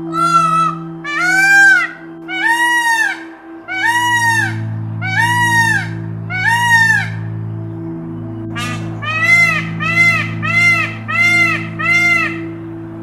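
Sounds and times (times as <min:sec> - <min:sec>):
rising and falling animal call: 0:00.0 - 0:07.3, 0:08.6 - 0:12.5
background music with low drone: 0:00.0 - 0:13.0.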